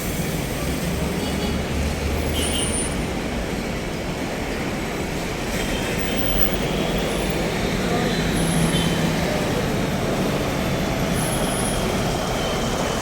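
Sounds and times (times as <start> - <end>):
heavy road traffic rumble: 0.0 - 13.0.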